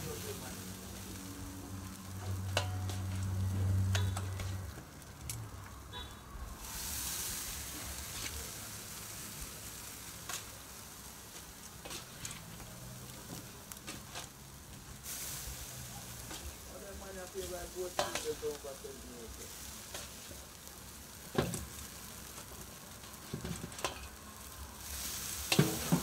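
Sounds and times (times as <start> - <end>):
chicken sizzling on a grill: 0.0 - 26.0.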